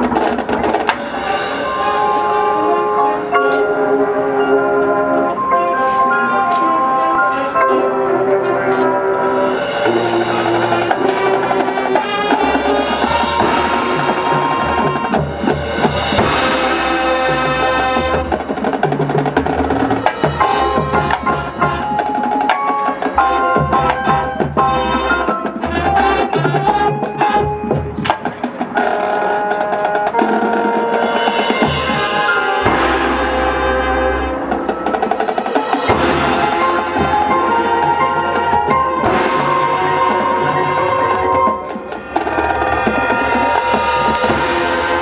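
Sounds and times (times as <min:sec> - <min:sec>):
drumline percussion: 0:00.0 - 0:06.8, 0:07.4 - 0:45.0
wind and brass chords: 0:00.0 - 0:45.0.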